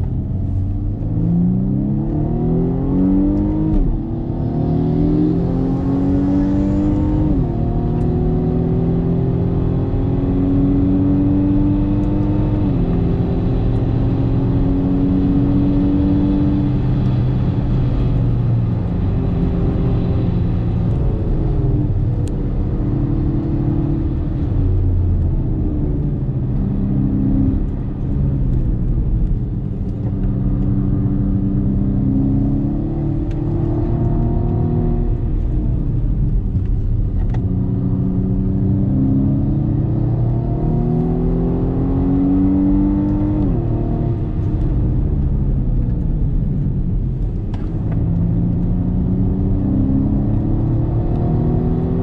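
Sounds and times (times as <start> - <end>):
car engine accelerating: 0.0 - 52.0
tyre and road noise: 0.0 - 52.0.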